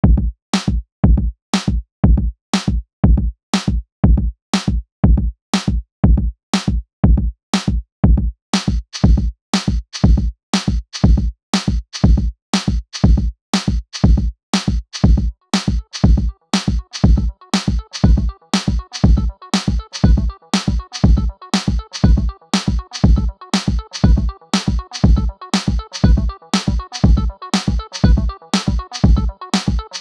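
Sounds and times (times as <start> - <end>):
drum-machine beat: 0.0 - 30.0.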